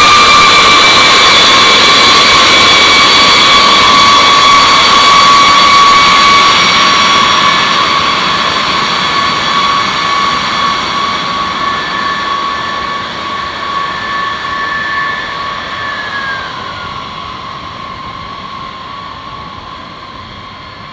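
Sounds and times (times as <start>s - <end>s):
jet engines whining: 0.0s - 20.9s.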